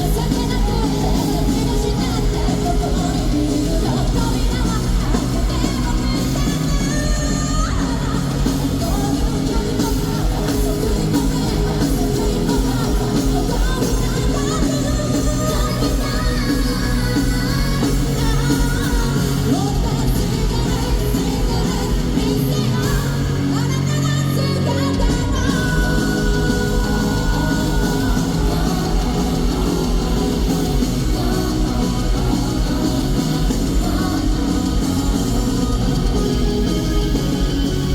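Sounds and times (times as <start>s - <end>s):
live rock band playing: 0.0s - 37.9s
woman singing lead: 0.0s - 37.9s.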